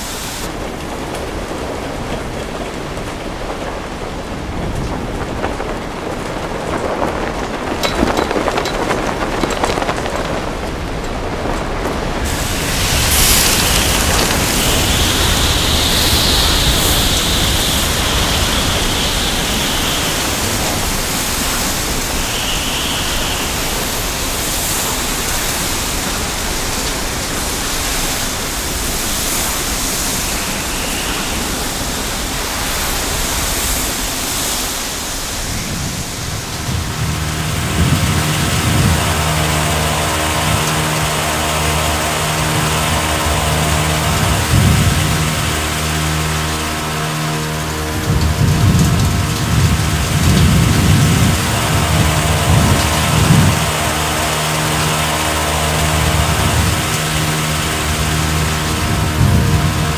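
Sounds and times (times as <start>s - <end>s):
low multi-tone drone: 0.0s - 59.9s
sandstorm wind rushing: 0.0s - 59.9s
high wind whistle: 4.4s - 59.9s.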